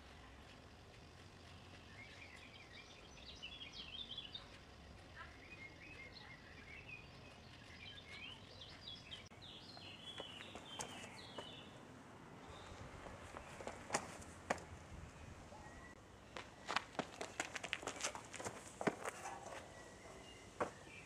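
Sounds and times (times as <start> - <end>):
outdoor background hiss: 0.0 - 21.0
small birds chirping: 0.0 - 21.0.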